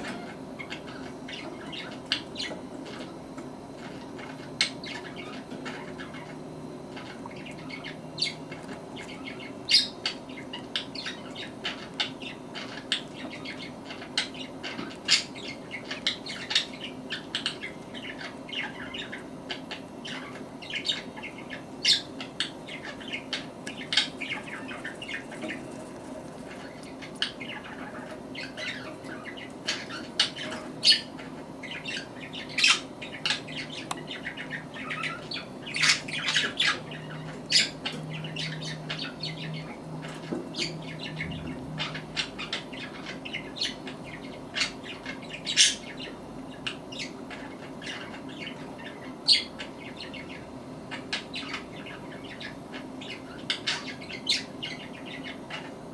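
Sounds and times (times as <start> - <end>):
budgerigars chirping and squeaking: 0.0 - 55.9.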